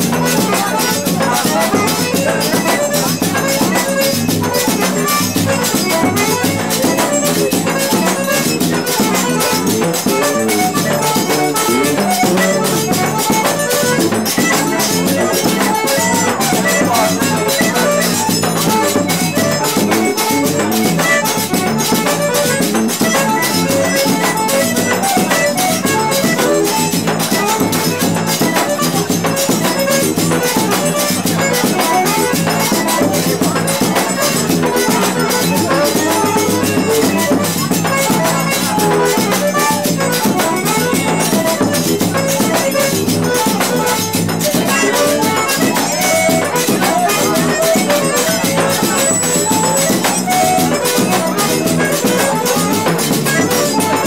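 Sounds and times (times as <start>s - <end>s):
button accordion: 0.0s - 54.0s
drum beat: 0.0s - 54.0s
shaker percussion: 0.0s - 54.0s.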